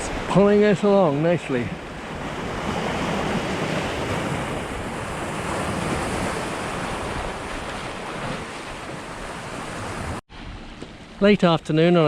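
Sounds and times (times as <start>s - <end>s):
water rushing along boat hull: 0.0s - 11.3s.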